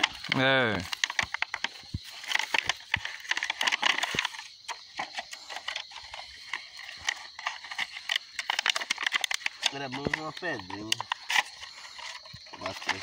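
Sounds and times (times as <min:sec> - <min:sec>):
plastic crackling and snapping: 0:00.0 - 0:13.0.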